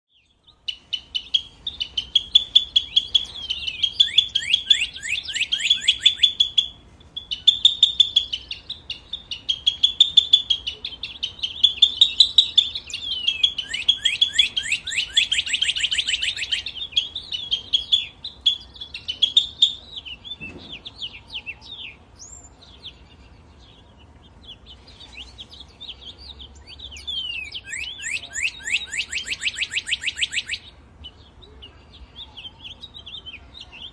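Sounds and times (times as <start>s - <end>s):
songbird chirping: 0.1s - 33.9s.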